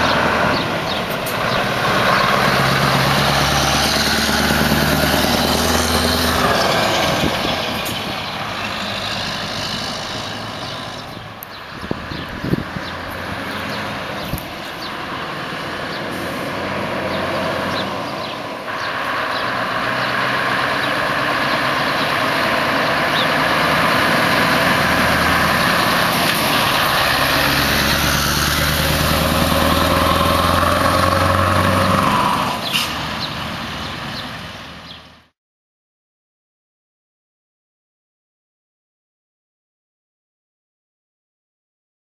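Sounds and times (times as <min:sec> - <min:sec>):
truck engine passing: 0:00.0 - 0:35.3.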